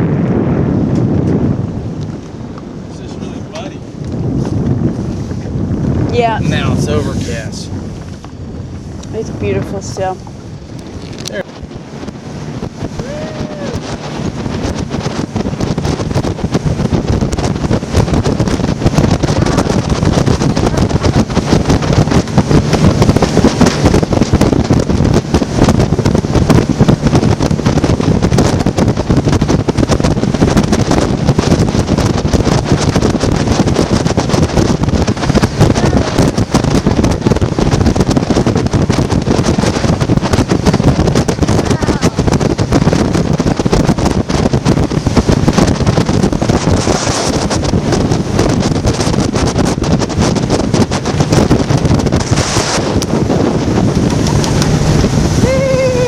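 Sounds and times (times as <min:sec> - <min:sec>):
hull on water: 0:00.0 - 0:56.0
outboard motor drone: 0:00.0 - 0:56.0
wind buffeting microphone: 0:00.0 - 0:56.0.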